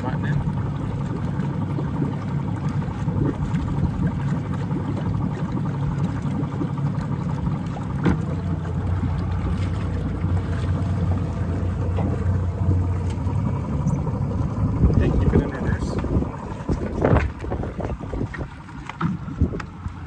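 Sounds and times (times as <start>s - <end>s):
boat engine humming: 0.0s - 20.0s
propeller churning water: 0.0s - 20.0s.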